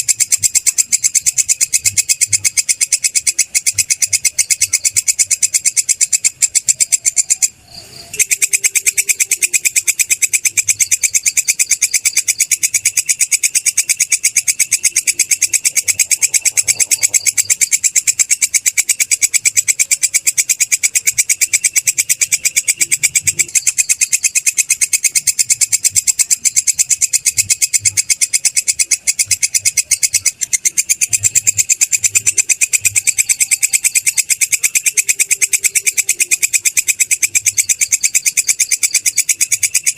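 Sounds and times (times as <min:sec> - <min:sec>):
katydid chirping: 0:00.0 - 0:39.9.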